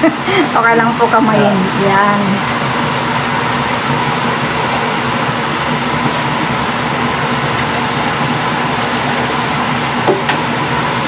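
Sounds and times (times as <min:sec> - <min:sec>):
blower whooshing drone: 0:00.0 - 0:11.0.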